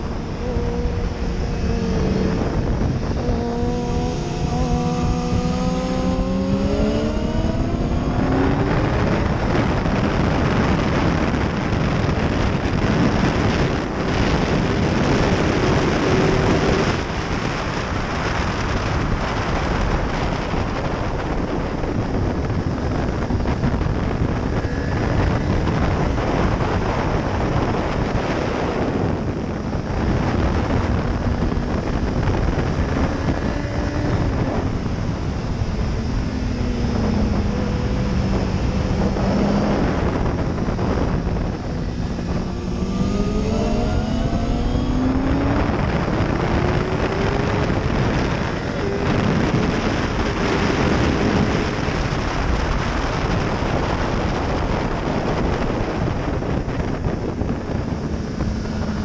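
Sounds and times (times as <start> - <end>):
motorcycle engine: 0.0 - 59.0
wind noise on microphone: 0.0 - 59.0.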